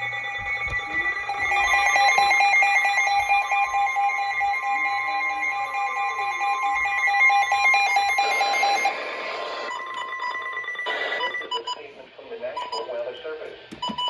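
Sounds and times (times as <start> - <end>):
electronic alarm tones pulsing: 0.0 - 11.8.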